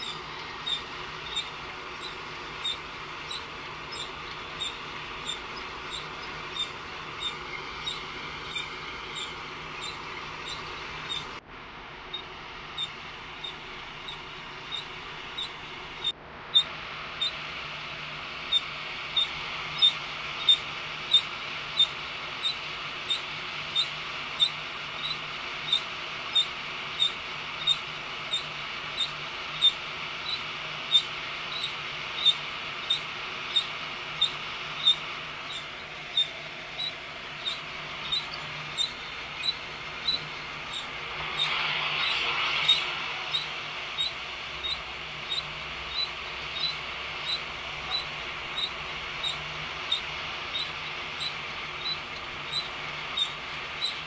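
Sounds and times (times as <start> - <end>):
roaster drum squeaking: 0.0 - 11.4, 12.1 - 17.4, 18.0 - 54.0
hot air rushing: 0.0 - 53.5.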